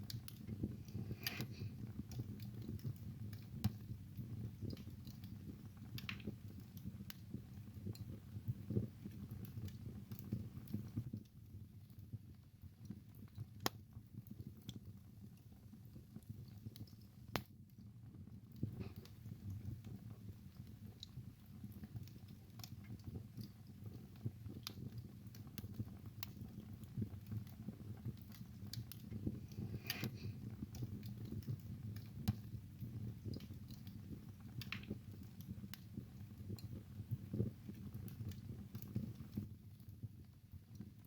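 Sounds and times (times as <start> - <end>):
low rumble of flames: 0.0 - 41.0
wood fire crackling and snapping: 0.0 - 41.0.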